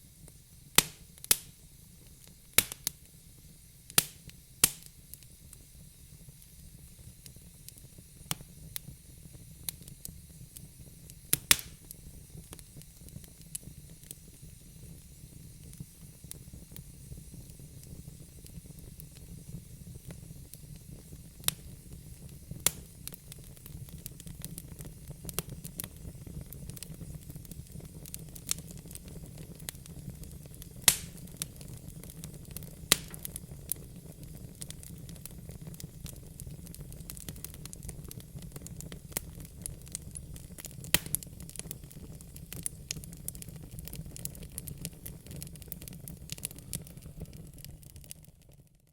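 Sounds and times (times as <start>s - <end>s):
fire crackles and pops: 0.0s - 48.9s
wood fire rumble and hiss: 0.0s - 48.9s.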